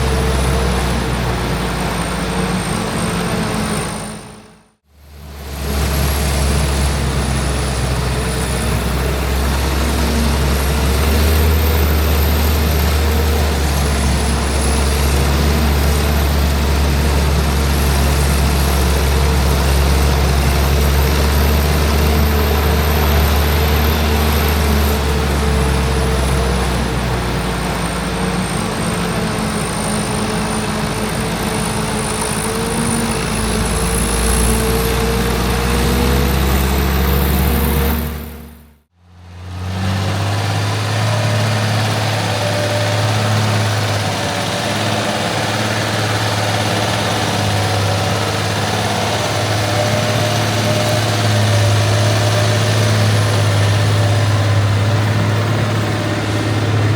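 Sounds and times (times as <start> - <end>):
diesel harvest machinery running: 0.0 - 56.9.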